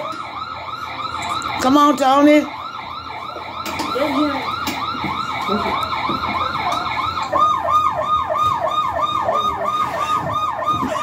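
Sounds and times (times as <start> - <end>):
toy electronic siren: 0.0 - 11.0.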